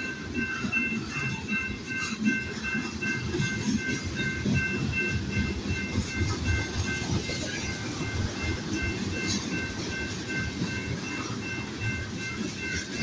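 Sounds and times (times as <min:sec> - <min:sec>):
crossing signal bell ringing: 0:00.0 - 0:13.0
train wheels rumbling and clacking: 0:00.0 - 0:13.0.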